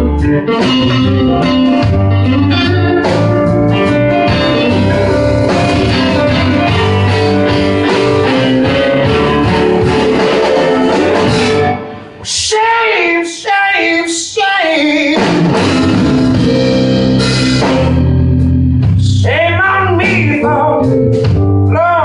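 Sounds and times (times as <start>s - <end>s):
bass line: 0.0s - 12.5s, 15.0s - 22.0s
guitar: 0.0s - 22.0s.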